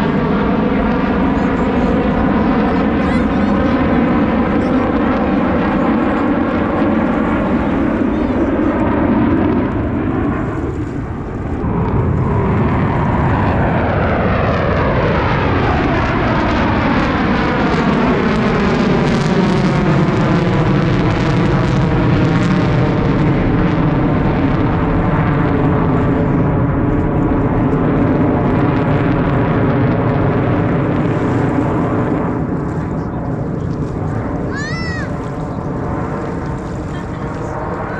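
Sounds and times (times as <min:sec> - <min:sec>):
jets passing overhead: 0:00.0 - 0:37.9.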